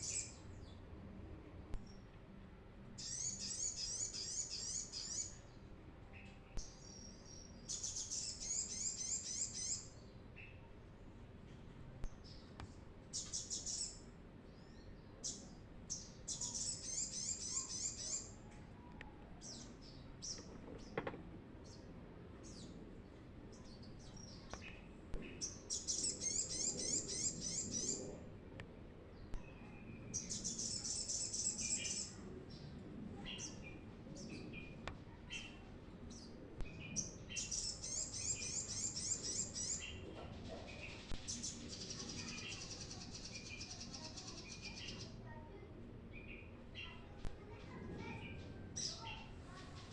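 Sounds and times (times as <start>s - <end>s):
sunbird high twittering song: 0.0s - 0.8s, 2.9s - 10.7s, 12.0s - 20.5s, 23.5s - 28.2s, 29.1s - 40.0s, 40.6s - 49.9s.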